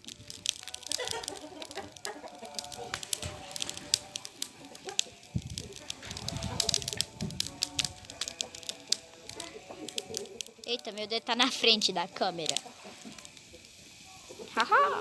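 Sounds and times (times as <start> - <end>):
fire crackling and popping: 0.0 - 15.0
chickens clucking: 0.7 - 15.0.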